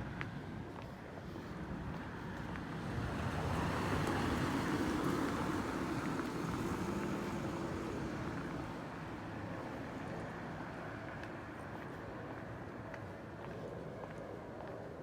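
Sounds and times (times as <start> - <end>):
street background noise: 0.0 - 15.0.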